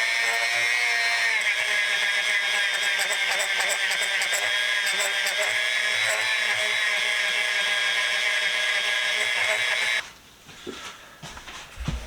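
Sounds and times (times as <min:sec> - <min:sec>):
rotary tool whining: 0:00.0 - 0:10.0.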